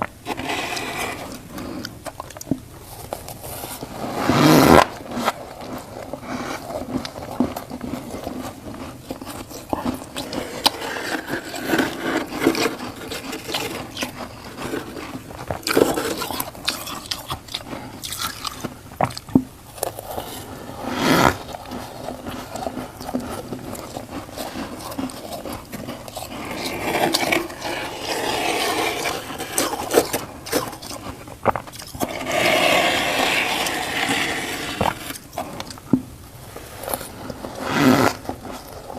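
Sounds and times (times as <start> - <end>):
frost being chewed: 0.0 - 38.9.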